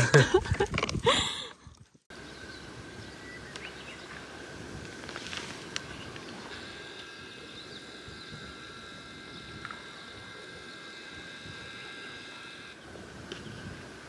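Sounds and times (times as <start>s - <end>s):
steady high whine: 2.1s - 14.0s.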